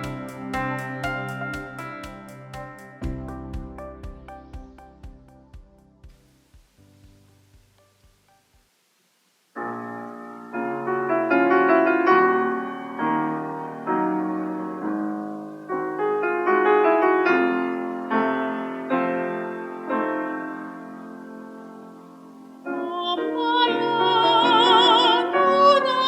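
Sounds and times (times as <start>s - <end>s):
piano playing slow chords: 0.0s - 8.6s, 9.6s - 26.0s.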